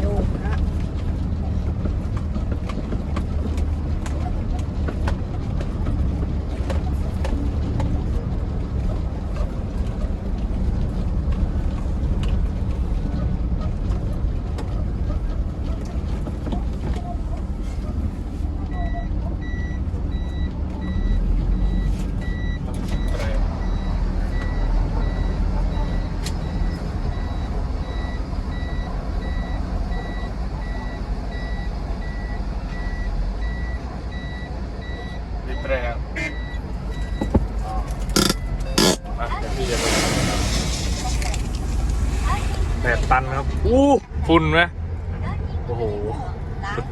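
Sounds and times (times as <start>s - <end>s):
diesel truck engine rumbling: 0.0s - 46.9s.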